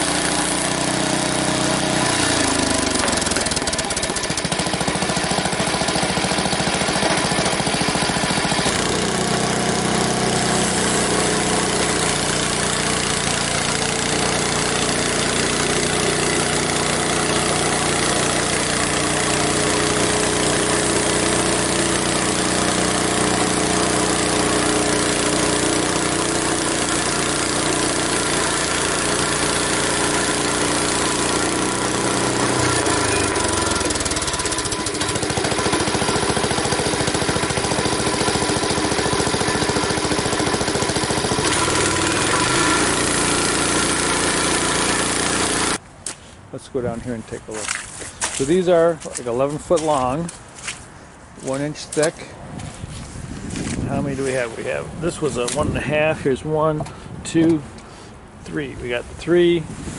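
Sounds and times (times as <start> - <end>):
sawmill engine running: 0.0 - 45.8, 53.6 - 59.6.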